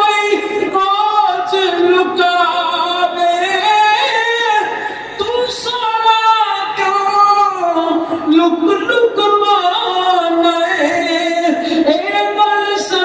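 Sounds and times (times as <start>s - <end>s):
man singing religious verse: 0.0s - 13.0s.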